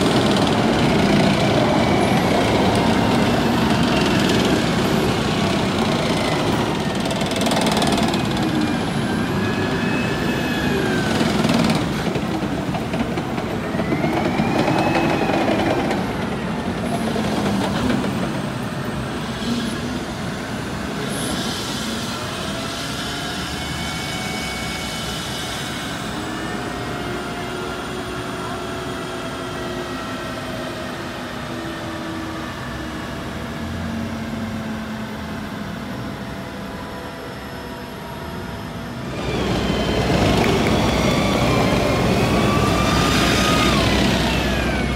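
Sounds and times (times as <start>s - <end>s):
steel tracks squealing: 0.0s - 31.1s, 39.0s - 44.9s.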